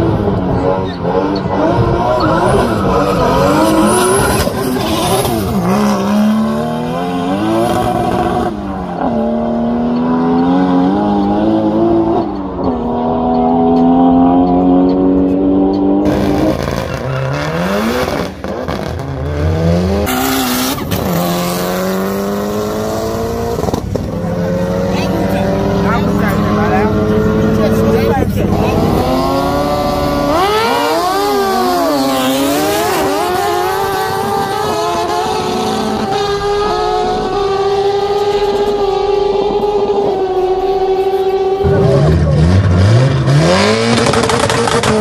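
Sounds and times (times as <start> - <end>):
racing car engines accelerating: 0.0 - 45.0.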